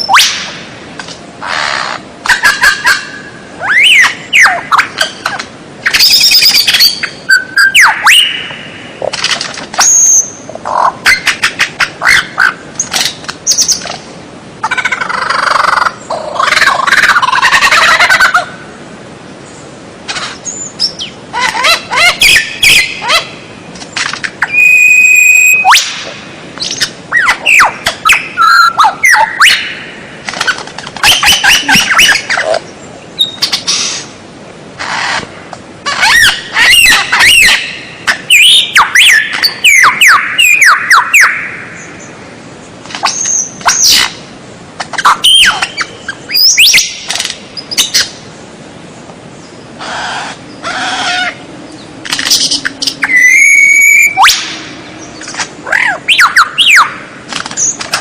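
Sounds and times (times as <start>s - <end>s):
songbird singing: 0.0s - 34.2s, 34.8s - 58.0s.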